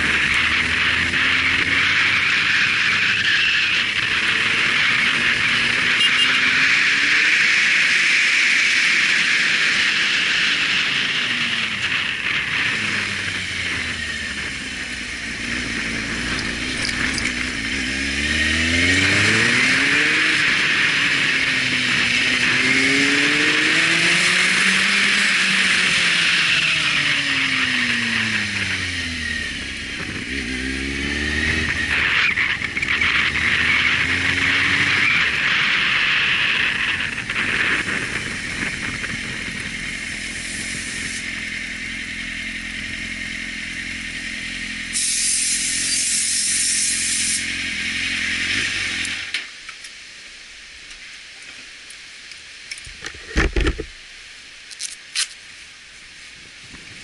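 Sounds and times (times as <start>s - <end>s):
motorcycle engine running: 0.0s - 49.7s.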